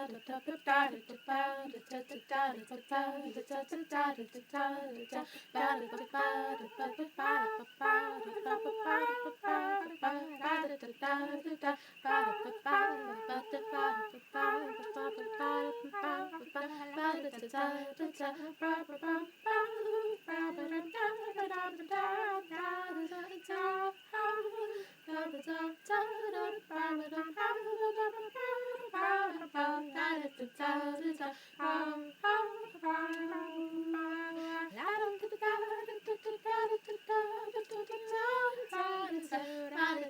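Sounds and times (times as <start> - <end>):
woman singing unaccompanied: 0.0 - 40.0.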